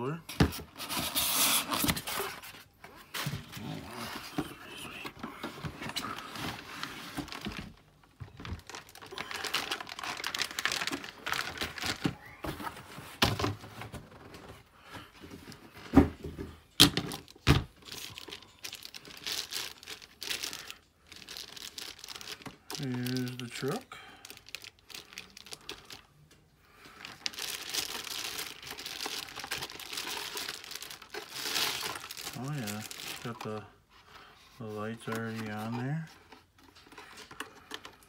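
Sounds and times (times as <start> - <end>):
packaging crinkling and rustling: 0.4 - 38.0.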